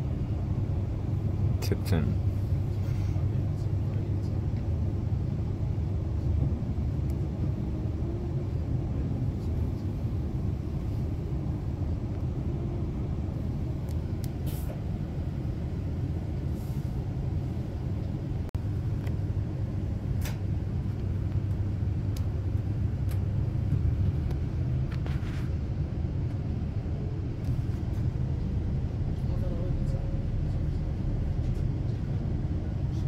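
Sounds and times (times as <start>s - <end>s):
train interior rumble: 0.0s - 33.0s.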